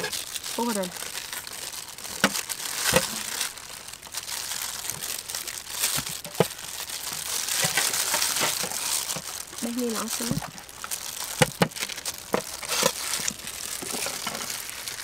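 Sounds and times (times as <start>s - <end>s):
crinkling: 0.0s - 15.0s
fruit skin tearing: 0.0s - 15.0s.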